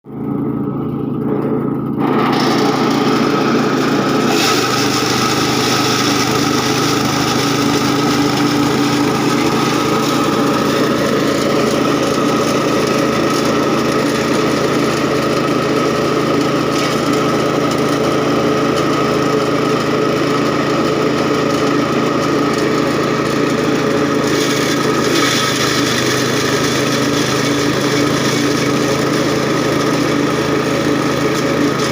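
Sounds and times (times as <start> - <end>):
small engine running steadily: 0.0 - 31.9.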